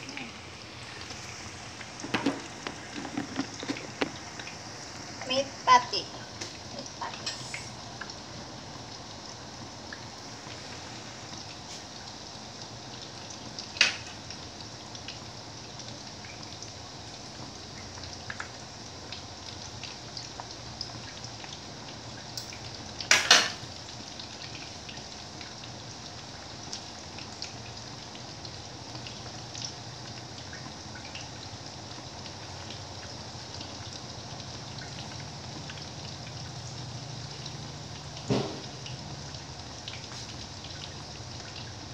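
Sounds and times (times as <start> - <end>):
meat patties sizzling in oil: 0.0 - 41.9.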